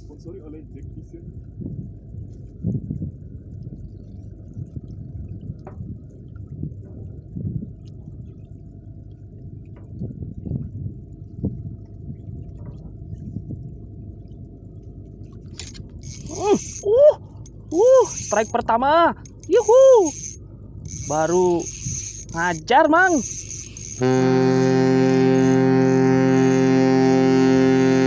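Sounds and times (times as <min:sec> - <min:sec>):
muffled water sloshing and gurgling: 0:00.0 - 0:28.0.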